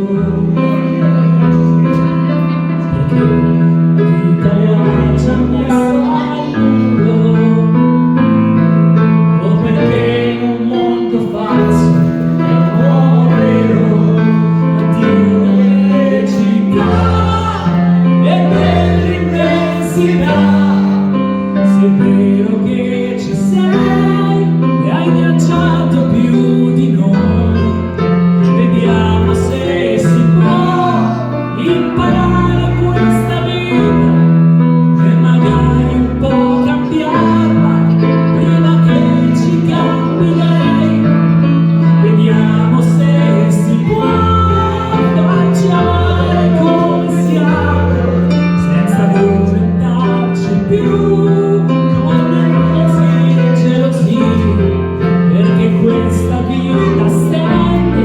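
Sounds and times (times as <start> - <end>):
person singing pop ballad: 0.0 - 8.6, 9.2 - 58.0
piano accompaniment: 0.0 - 58.0.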